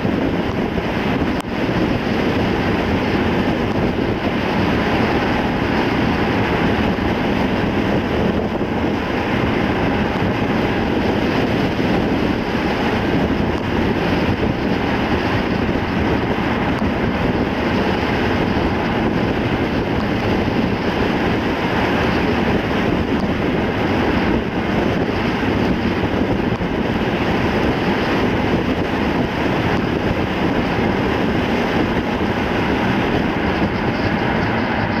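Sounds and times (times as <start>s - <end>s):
car road and wind noise: 0.0s - 35.0s.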